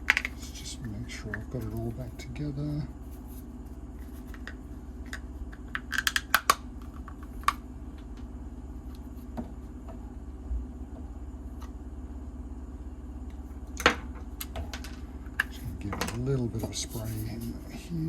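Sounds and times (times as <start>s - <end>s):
steady low background hum: 0.0s - 18.0s.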